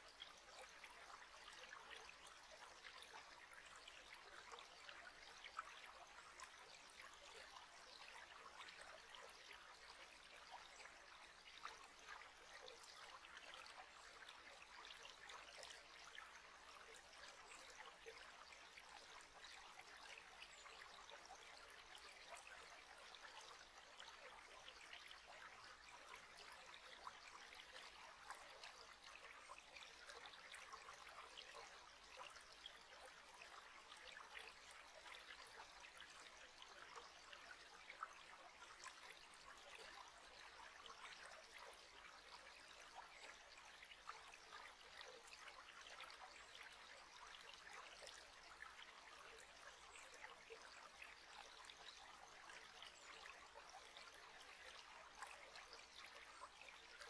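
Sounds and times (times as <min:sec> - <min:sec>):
trickle of running water: 0:00.0 - 0:57.0
water splashes and drips: 0:00.0 - 0:57.0.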